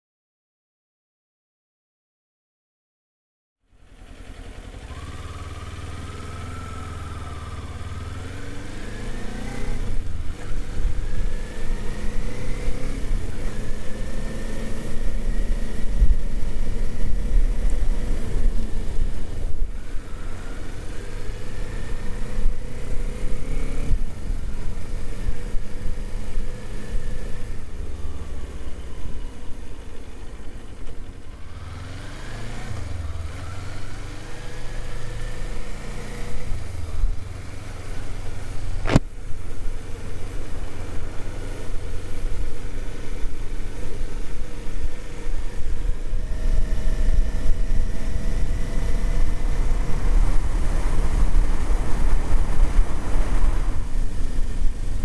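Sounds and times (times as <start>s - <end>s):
motorcycle engine accelerating: 3.7s - 55.0s
wind and road noise: 3.7s - 55.0s.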